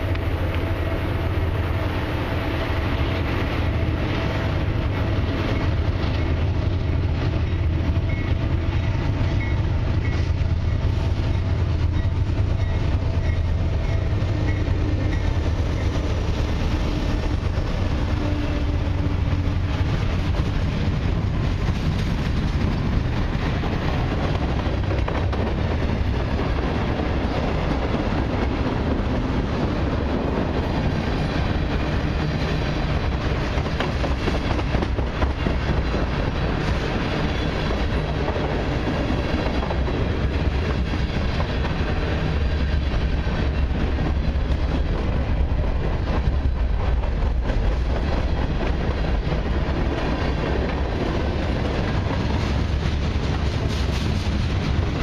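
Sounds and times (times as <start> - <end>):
diesel locomotive engines running: 0.0 - 55.0.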